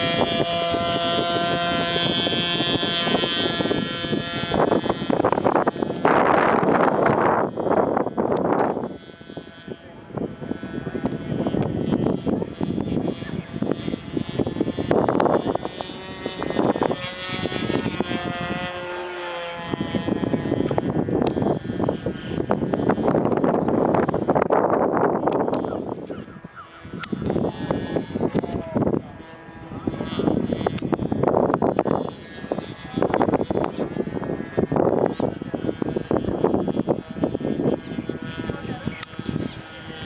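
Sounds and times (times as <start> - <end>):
model plane engine buzzing: 0.0 - 40.0
wind buffeting microphone: 0.0 - 40.0.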